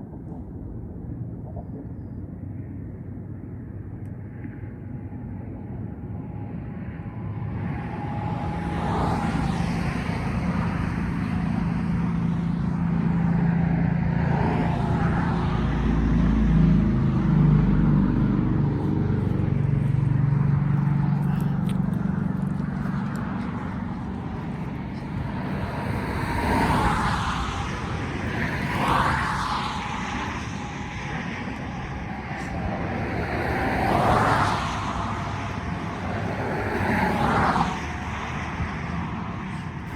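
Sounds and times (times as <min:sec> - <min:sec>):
vehicle engines passing: 0:04.3 - 0:39.9.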